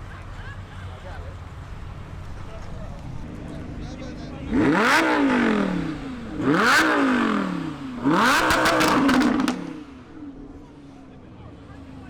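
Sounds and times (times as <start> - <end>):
exhaust crackles: 1.5 - 12.0
car engine revving: 1.8 - 12.0.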